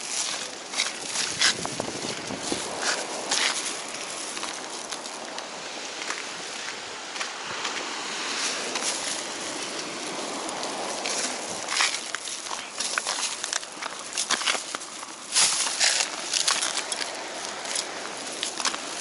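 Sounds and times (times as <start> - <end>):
footsteps scuffing on concrete: 0.0 - 5.2, 6.0 - 18.9
waves washing onto pebbles: 0.0 - 19.0.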